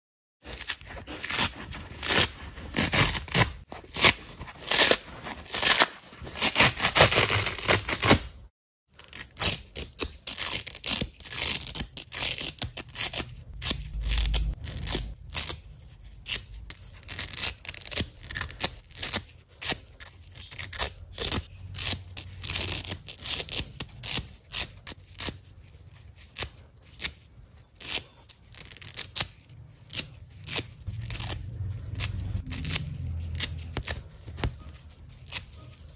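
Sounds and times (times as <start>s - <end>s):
foam sponge being torn: 0.4s - 35.9s.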